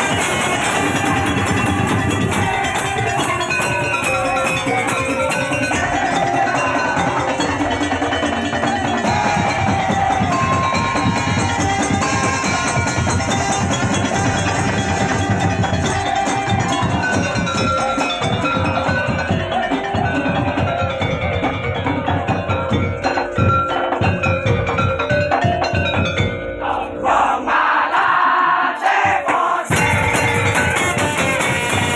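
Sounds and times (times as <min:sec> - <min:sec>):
wood-block knocks: 0:00.0 - 0:27.0, 0:29.0 - 0:31.9
drums beating: 0:00.0 - 0:31.9
ringing metal percussion: 0:00.0 - 0:31.9.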